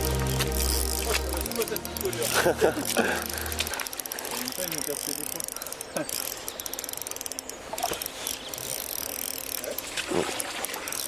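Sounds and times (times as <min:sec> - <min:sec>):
fishing reel gears ticking: 0:00.0 - 0:11.0.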